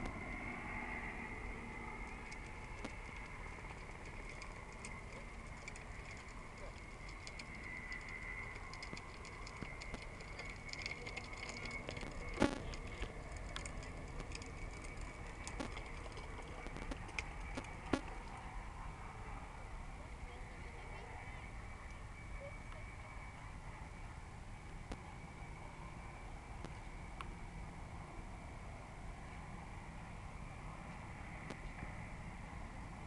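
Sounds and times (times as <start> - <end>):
distant helicopter whine: 0.0 - 33.0
low hum: 0.0 - 33.0.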